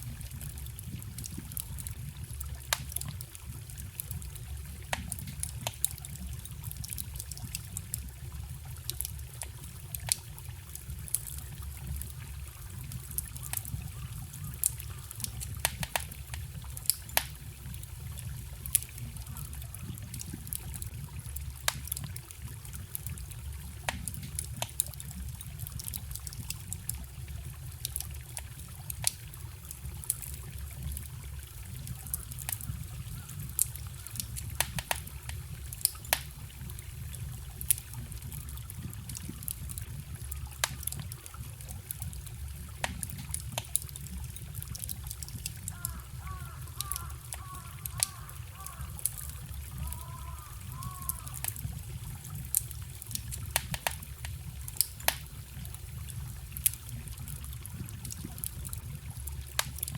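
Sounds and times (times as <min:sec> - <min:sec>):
campfire crackling and popping: 0:00.0 - 0:59.9
stream trickling: 0:00.0 - 0:59.9.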